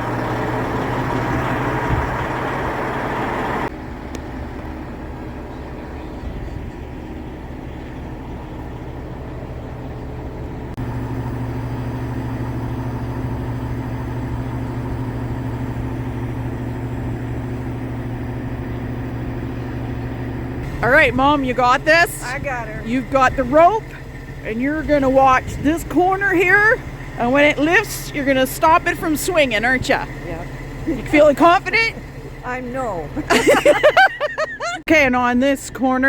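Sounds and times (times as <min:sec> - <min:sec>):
diesel crane engine idling: 0:00.0 - 0:36.0.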